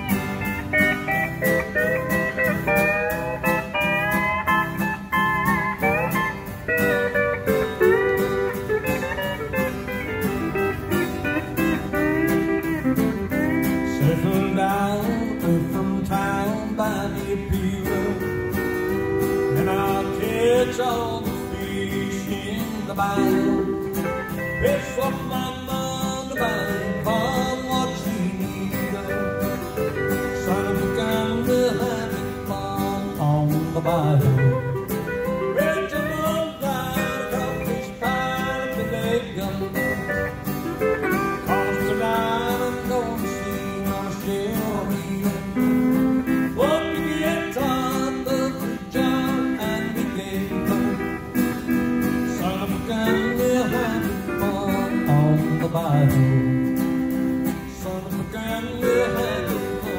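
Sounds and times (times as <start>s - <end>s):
acoustic guitar: 0.0s - 59.9s
pedal steel guitar: 0.0s - 59.9s.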